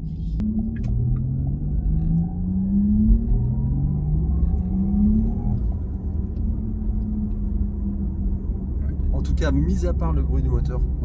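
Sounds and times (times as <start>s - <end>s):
low road rumble: 0.0s - 11.0s
synthesized motor hum: 0.4s - 9.6s.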